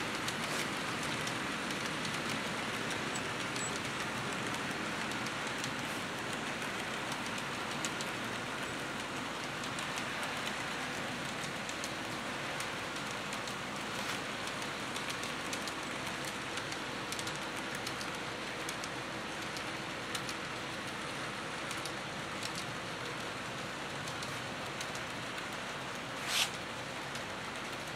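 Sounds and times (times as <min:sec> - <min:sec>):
model train rolling hiss: 0:00.0 - 0:27.9
wheels clicking on rails: 0:00.0 - 0:27.9.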